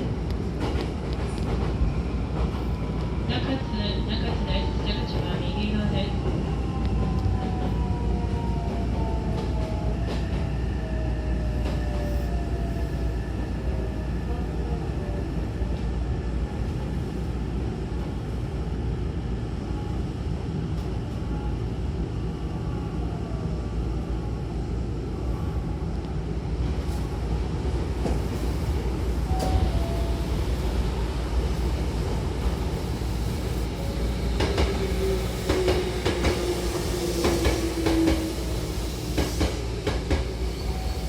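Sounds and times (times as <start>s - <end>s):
electric train rumble: 0.0s - 41.0s.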